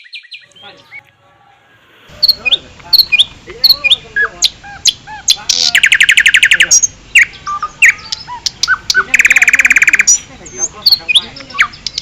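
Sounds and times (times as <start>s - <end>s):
songbird chirping and whistling: 0.0s - 12.0s
fast bird trill: 2.1s - 12.0s.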